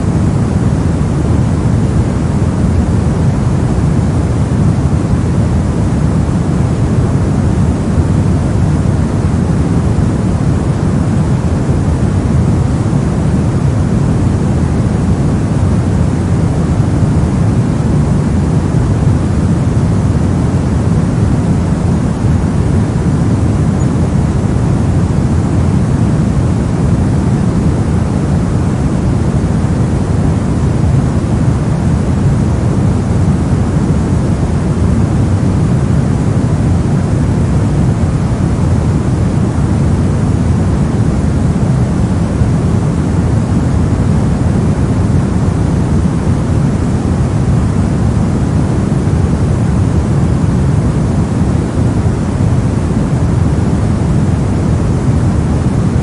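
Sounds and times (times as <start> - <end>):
steady low hiss-like rush: 0.0 - 56.0.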